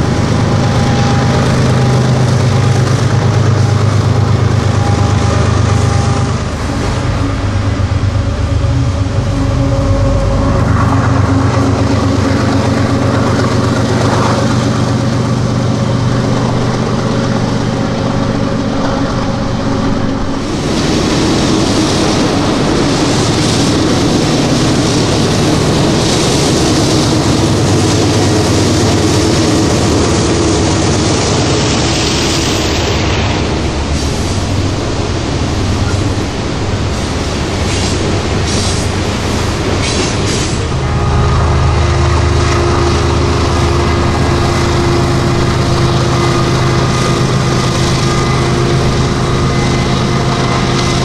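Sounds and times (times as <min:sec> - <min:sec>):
diesel locomotive drone: 0:00.0 - 0:51.0.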